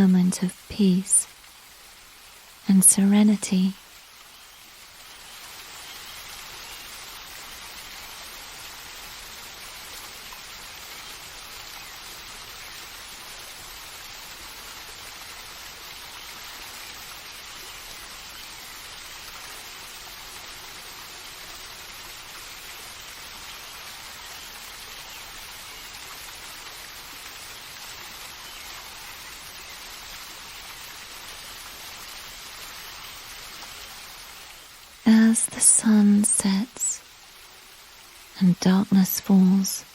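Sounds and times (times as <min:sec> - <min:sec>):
hiss of falling water: 0:00.0 - 0:39.9.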